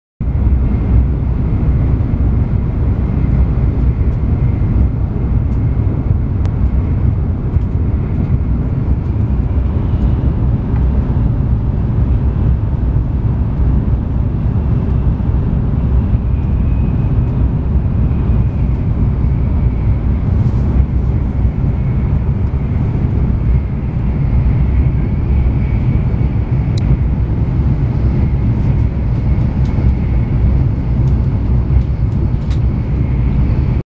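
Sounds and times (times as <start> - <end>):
train low rumble: 0.2 - 33.8.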